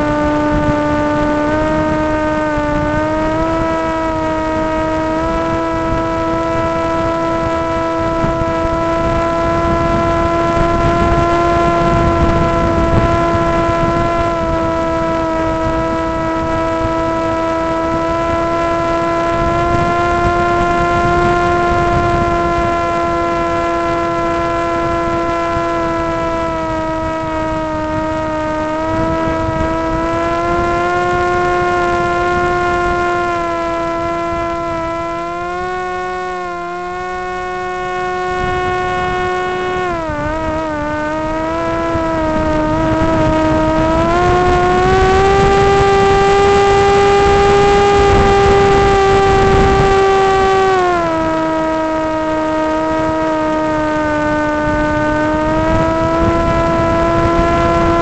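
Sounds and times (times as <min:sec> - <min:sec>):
electric motor and propeller whine: 0:00.0 - 0:58.0
wind rumble on microphone: 0:00.0 - 0:58.0.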